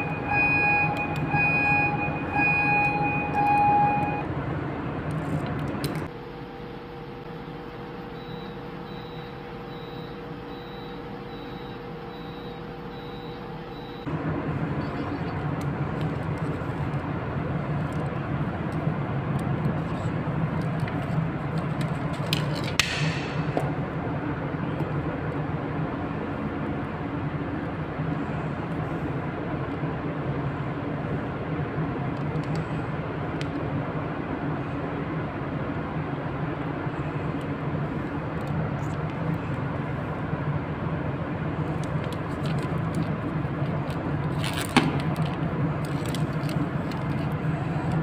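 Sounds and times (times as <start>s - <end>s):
machinery drone: 0.0s - 44.3s
equipment hum: 0.0s - 48.0s.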